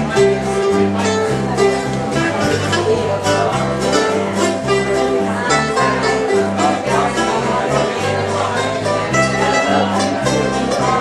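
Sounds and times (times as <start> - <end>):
acoustic guitar: 0.0 - 11.0
picked strings playing: 0.0 - 11.0
upright bass: 0.0 - 11.0.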